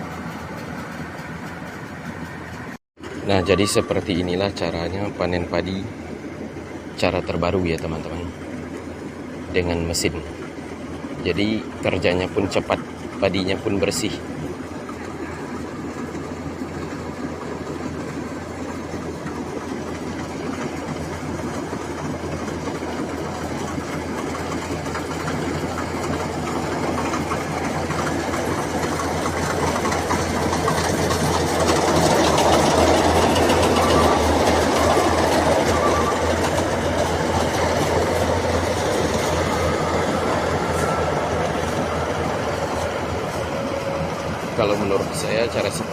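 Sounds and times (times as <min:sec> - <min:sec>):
combine harvester rattling drone: 0:00.0 - 0:45.9.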